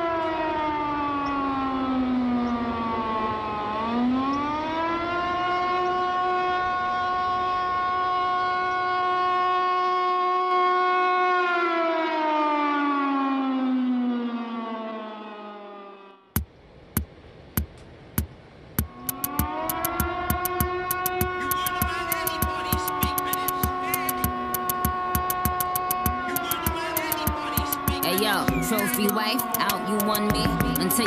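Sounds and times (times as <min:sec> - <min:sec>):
warning siren wailing: 0:00.0 - 0:16.4, 0:18.8 - 0:31.0.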